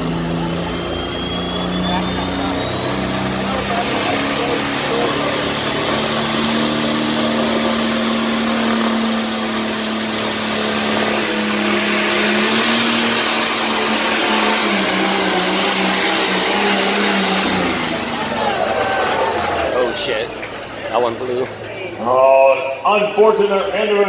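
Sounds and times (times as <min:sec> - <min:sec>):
tractor engine at full throttle: 0:00.0 - 0:23.2
high whine climbing in pitch: 0:00.0 - 0:24.0.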